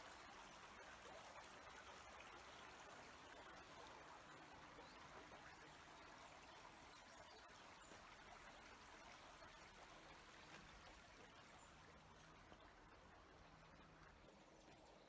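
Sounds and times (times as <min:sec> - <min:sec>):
small river flowing: 0:00.0 - 0:15.0.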